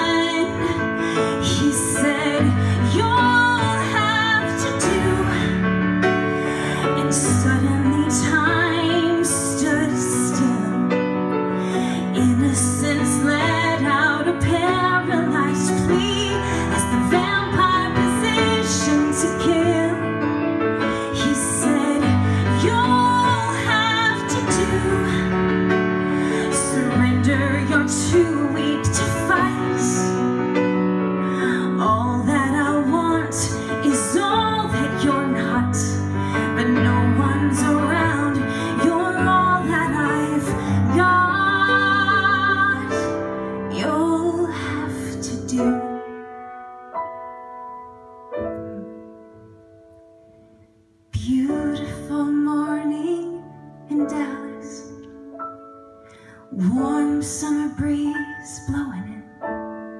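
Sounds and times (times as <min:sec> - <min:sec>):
woman singing: 0:00.0 - 0:46.4, 0:51.1 - 0:55.3, 0:56.3 - 0:59.9.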